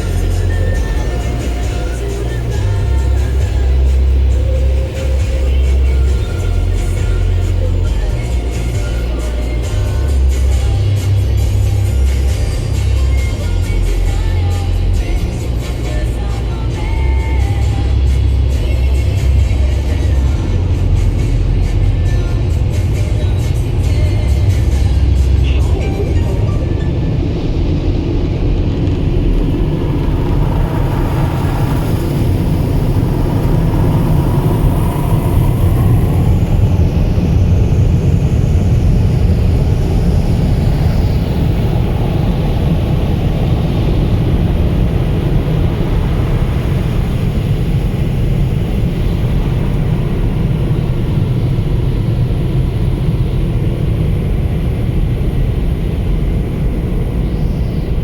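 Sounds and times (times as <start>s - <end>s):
car wash machinery and water: 0.0s - 58.0s.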